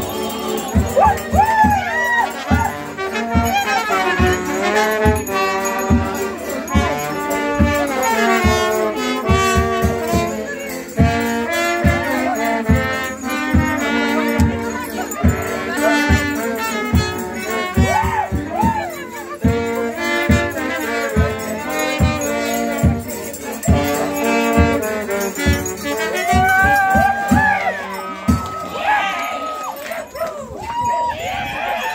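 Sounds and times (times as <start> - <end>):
steady drum beat: 0.0 - 28.8
brass band folk tune: 0.0 - 30.4
bells jingling: 0.0 - 31.9.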